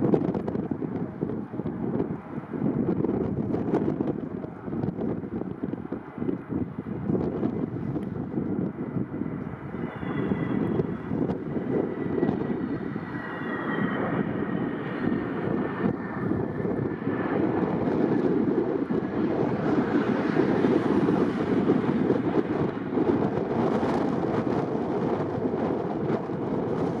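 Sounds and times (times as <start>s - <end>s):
faint high jet whine: 0.0s - 27.0s
jet airliner passing low: 0.0s - 27.0s.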